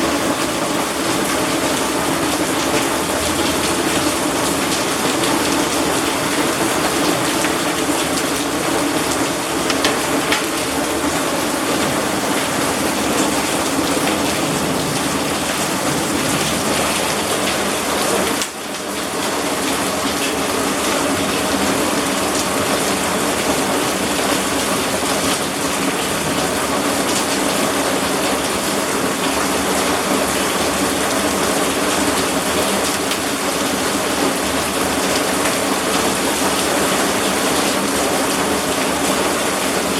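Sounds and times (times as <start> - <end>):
heavy rain pouring: 0.0 - 39.9
sharp rain taps: 0.0 - 39.9.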